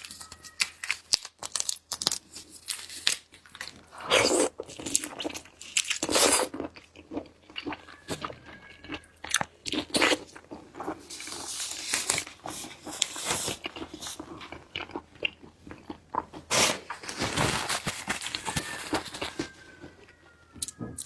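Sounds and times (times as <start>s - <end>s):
crunchy eating and chewing: 0.0s - 21.0s.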